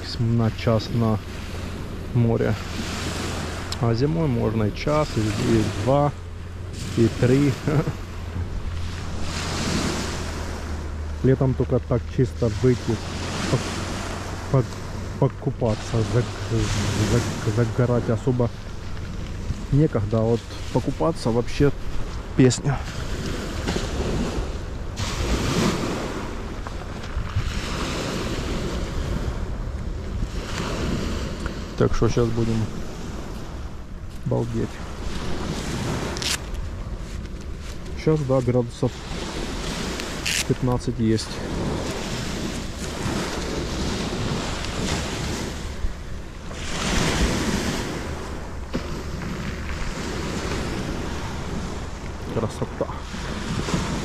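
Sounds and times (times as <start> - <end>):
waves washing onto pebble beach: 0.0 - 54.0
wind rumbling on microphone: 0.0 - 54.0.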